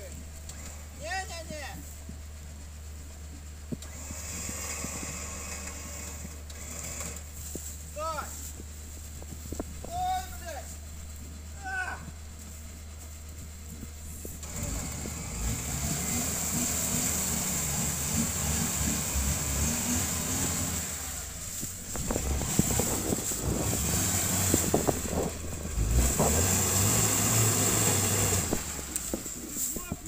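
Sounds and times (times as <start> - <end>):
vehicle engine running under load: 0.0 - 30.0.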